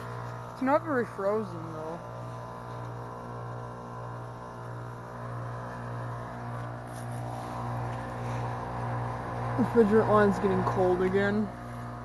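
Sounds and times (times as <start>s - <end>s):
heat pump compressor humming: 0.0s - 12.0s.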